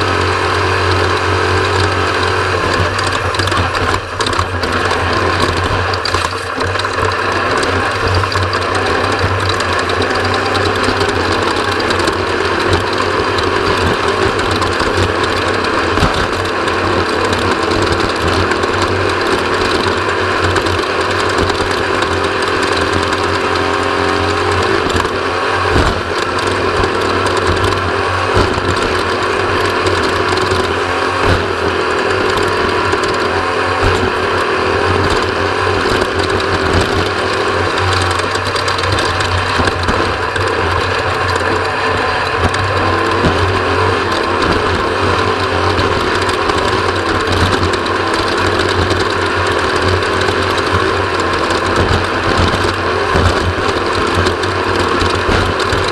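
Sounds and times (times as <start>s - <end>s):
clatter of rattling parts: 0.0s - 55.9s
vehicle engine running: 0.0s - 55.9s.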